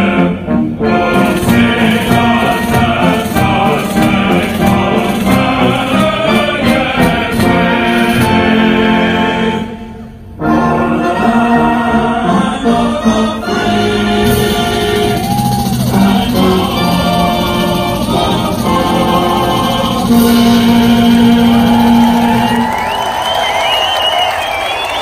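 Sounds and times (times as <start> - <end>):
brass band playing: 0.0 - 25.0
choir singing: 0.0 - 25.0.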